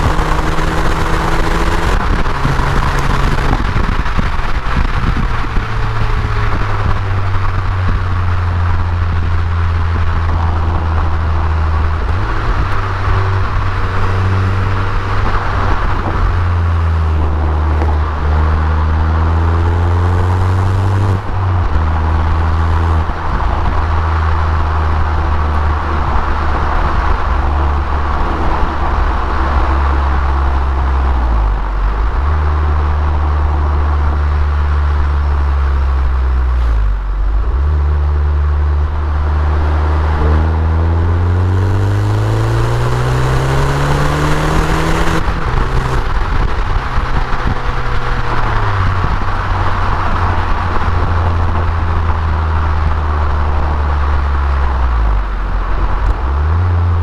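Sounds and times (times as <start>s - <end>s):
turbocharged car engine driving: 0.0s - 57.0s.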